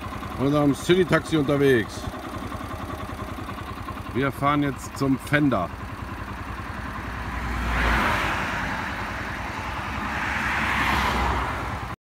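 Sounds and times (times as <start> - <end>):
low engine rumble: 0.0 - 12.0
traffic: 0.0 - 12.0.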